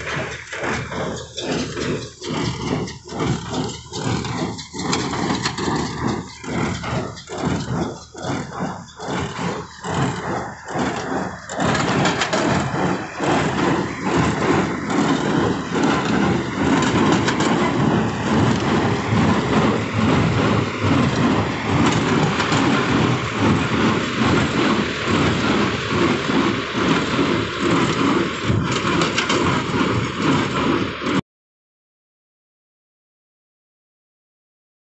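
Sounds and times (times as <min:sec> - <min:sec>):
baler machine din: 0:00.0 - 0:31.2
tractor engine under load: 0:00.0 - 0:31.2.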